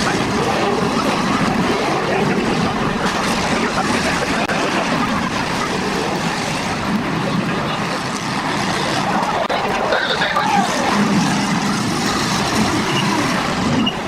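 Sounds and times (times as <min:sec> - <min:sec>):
car engines running together: 0:00.0 - 0:14.0.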